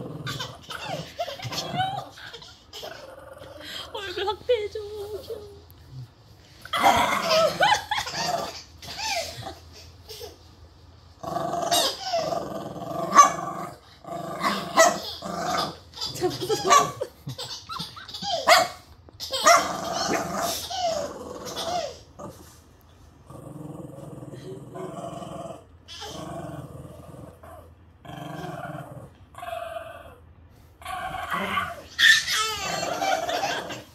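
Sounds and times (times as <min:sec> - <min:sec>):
small dog growling and barking: 0:00.0 - 0:03.8, 0:05.9 - 0:09.8, 0:11.2 - 0:22.6, 0:23.2 - 0:33.9.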